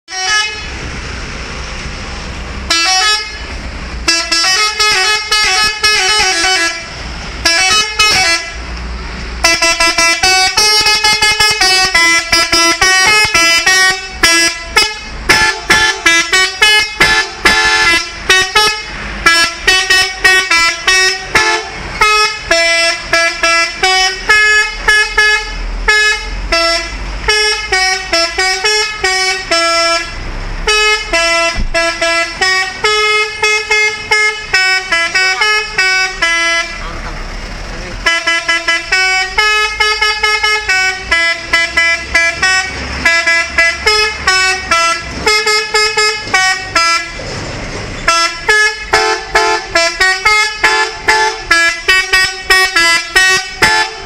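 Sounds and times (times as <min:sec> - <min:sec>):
musical air horns playing: 0:00.1 - 0:00.8, 0:02.7 - 0:08.6, 0:09.4 - 0:36.8, 0:38.0 - 0:47.2, 0:48.1 - 0:54.0.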